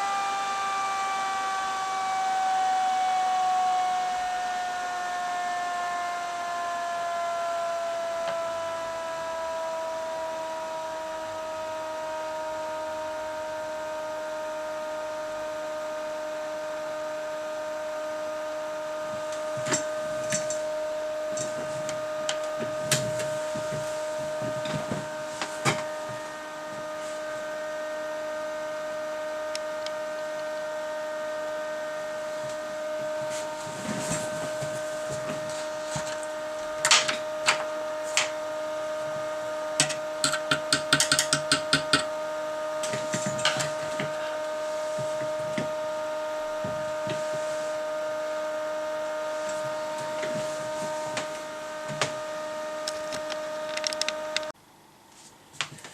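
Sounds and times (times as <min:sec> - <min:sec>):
electrical whine: 0:00.0 - 0:54.6.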